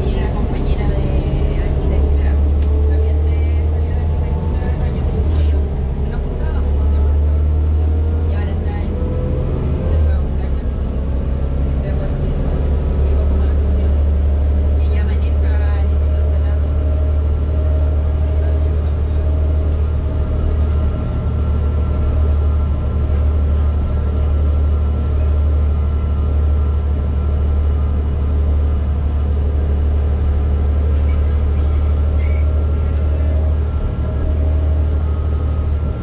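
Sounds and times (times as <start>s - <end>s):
bus engine drone: 0.0s - 36.0s.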